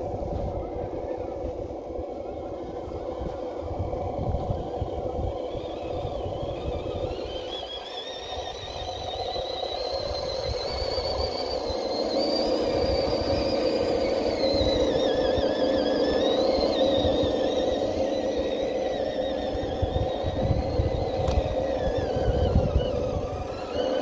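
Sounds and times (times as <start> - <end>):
low buffeting rumble: 0.0 - 7.6, 8.4 - 24.0
electric motor and gearbox whine: 0.0 - 24.0.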